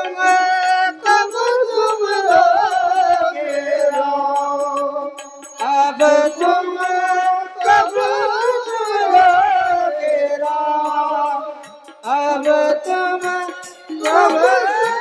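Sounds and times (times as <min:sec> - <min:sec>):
hand cymbals ticking: 0:00.0 - 0:15.0
held accompaniment: 0:00.0 - 0:15.0
ornamented singing: 0:00.0 - 0:15.0.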